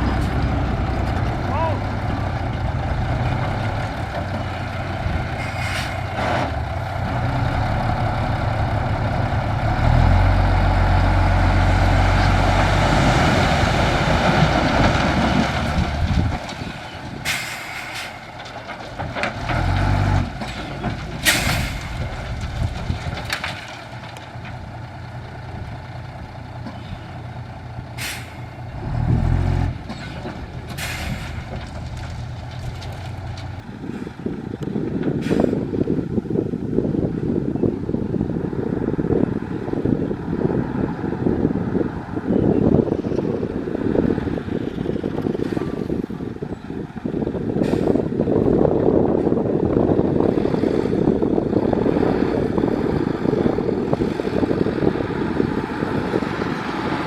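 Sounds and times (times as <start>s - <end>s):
diesel truck engine revving: 0.0s - 16.5s, 27.4s - 57.0s.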